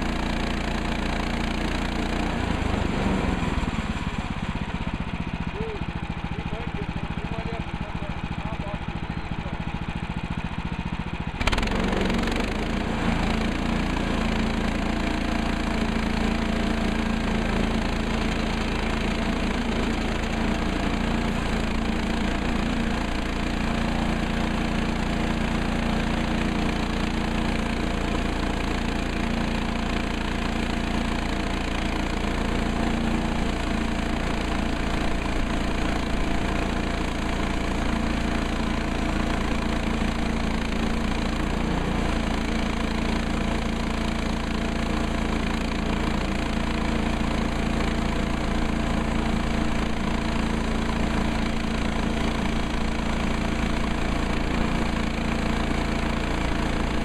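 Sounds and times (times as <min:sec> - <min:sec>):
gas engine running: 0:00.0 - 0:57.0.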